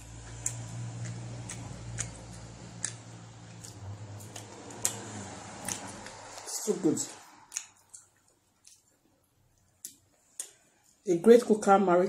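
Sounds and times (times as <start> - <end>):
wet mouth clicks and lip smacks: 0.1 - 6.5, 7.3 - 10.6.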